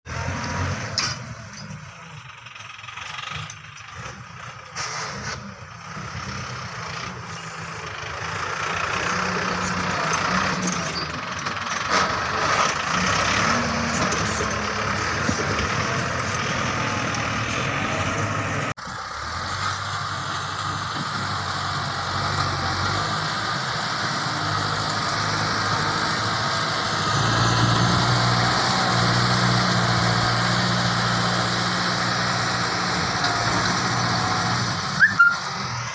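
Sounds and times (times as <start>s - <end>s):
tractor engine under load: 0.1s - 35.9s.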